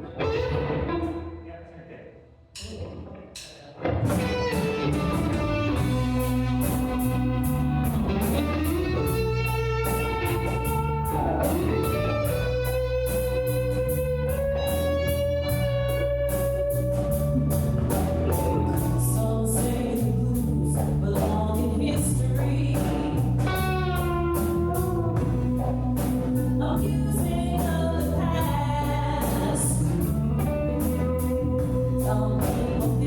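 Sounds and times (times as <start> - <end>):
lead guitar: 0.0 - 1.8, 3.7 - 33.0
steady drum beat: 2.6 - 33.0
bass: 3.8 - 33.0.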